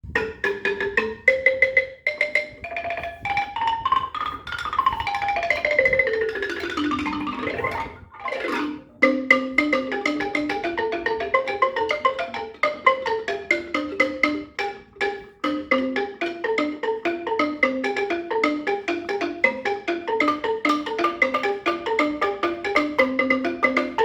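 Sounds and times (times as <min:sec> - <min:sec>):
wooden xylophone played with beaters: 0:00.0 - 0:24.0.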